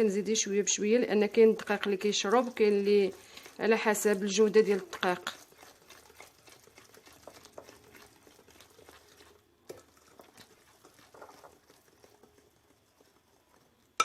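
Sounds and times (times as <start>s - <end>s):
utensil stirring batter in bowl: 0.0s - 14.0s.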